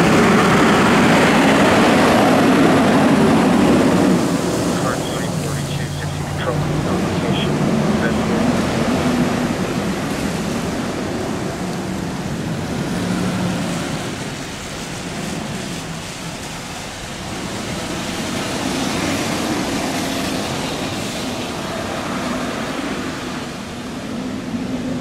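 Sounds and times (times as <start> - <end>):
engines of passing vehicles: 0.0 - 25.0
tyre hiss on wet street: 0.0 - 25.0.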